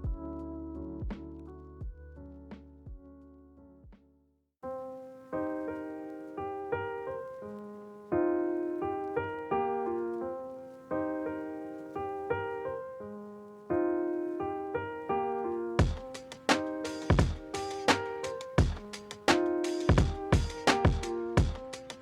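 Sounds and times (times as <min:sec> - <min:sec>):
piano-like keyboard notes and chords: 0:00.0 - 0:03.9, 0:04.6 - 0:22.0.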